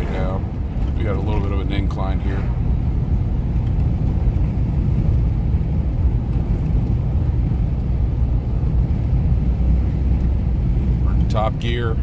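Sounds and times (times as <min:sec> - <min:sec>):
pickup truck engine rumble: 0:00.0 - 0:12.0
road noise inside cab: 0:00.0 - 0:12.0.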